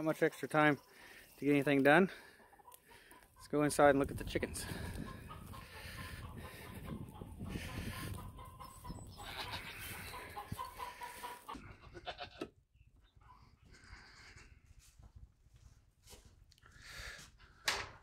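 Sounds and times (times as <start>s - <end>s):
chickens clucking: 0.0s - 14.6s.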